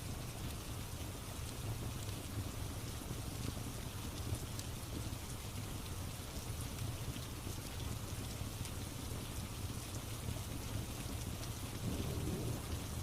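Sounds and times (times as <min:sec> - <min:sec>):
faint wood fire crackles: 0:00.0 - 0:13.0
steady rain: 0:00.0 - 0:13.0.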